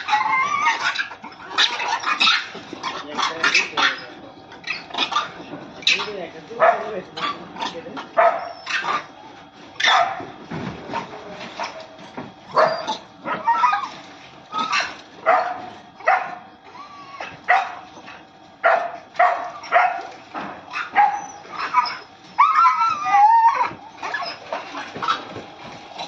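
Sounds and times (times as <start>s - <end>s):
dogs barking and yelping: 0.0s - 10.4s, 11.6s - 26.0s.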